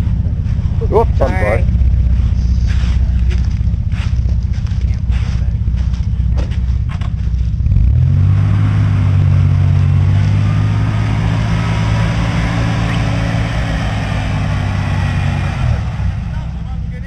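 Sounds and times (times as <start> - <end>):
vehicle engine under load: 0.0 - 17.0.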